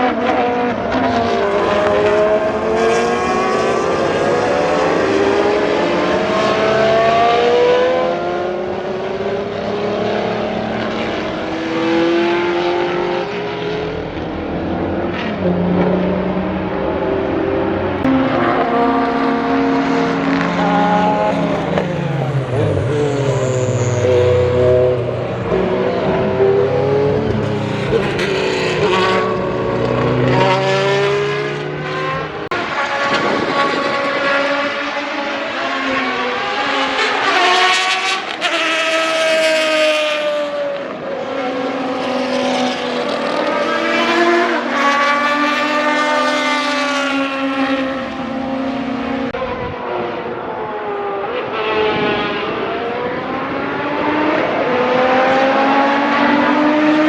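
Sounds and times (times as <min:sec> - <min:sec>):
race car engines accelerating: 0:00.0 - 0:57.0.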